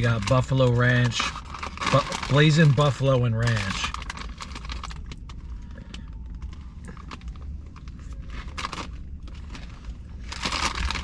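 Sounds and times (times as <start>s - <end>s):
chip bag crackling: 0.0s - 5.5s, 6.3s - 11.0s
low steady hum: 0.0s - 11.0s.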